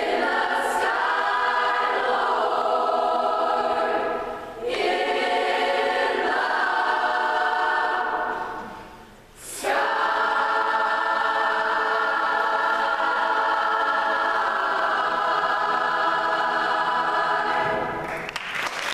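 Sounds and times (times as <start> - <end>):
choir singing with orchestra: 0.0 - 18.2.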